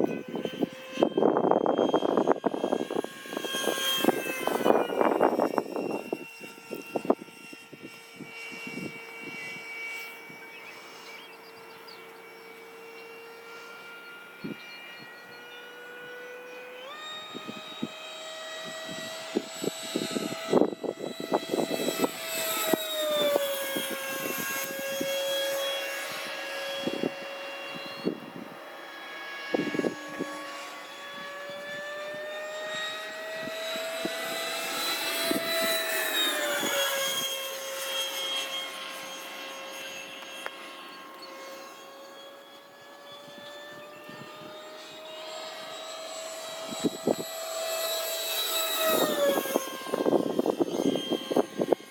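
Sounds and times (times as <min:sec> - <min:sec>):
electric ducted fan whining: 0:00.0 - 0:51.9.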